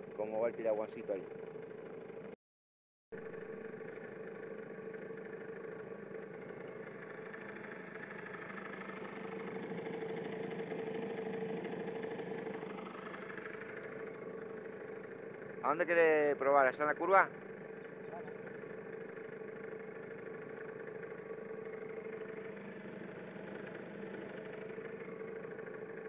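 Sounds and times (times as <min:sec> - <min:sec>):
outboard motor running: 0:00.0 - 0:02.4, 0:03.1 - 0:26.0.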